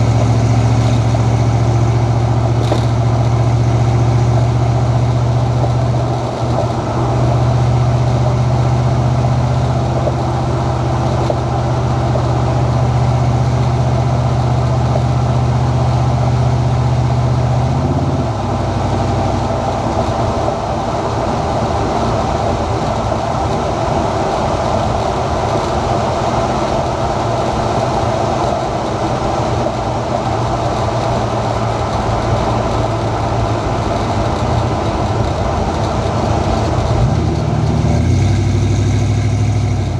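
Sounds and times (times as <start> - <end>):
engine cruising drone: 0.0 - 39.9
road noise: 0.0 - 39.9.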